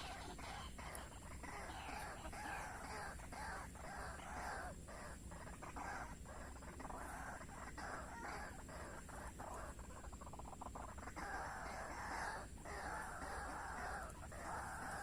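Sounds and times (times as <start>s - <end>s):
waterhens calling: 0.0s - 15.0s.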